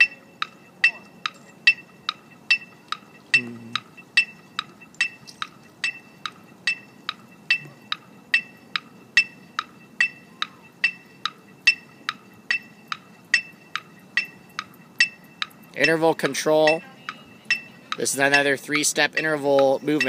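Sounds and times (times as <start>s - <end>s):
metronome beeping: 0.0s - 20.0s.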